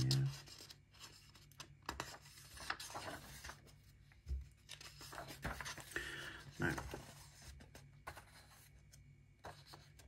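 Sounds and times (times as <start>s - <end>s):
paper pages flipping: 0.0s - 10.0s.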